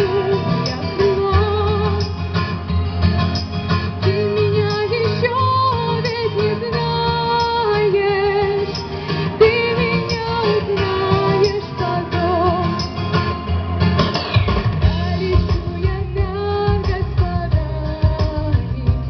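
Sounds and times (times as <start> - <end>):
woman singing with vibrato: 0.0 - 2.3, 4.0 - 13.0, 14.9 - 19.0
instrumental accompaniment: 0.0 - 19.0.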